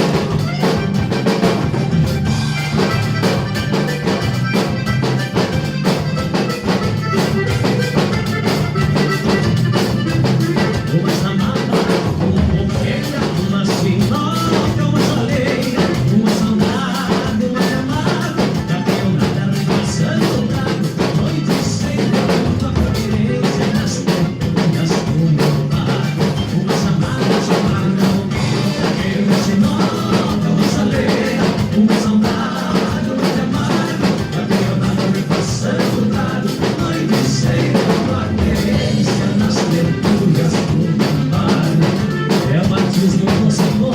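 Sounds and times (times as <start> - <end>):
drum kit steady beat: 0.0 - 43.9
live band jamming: 0.0 - 43.9.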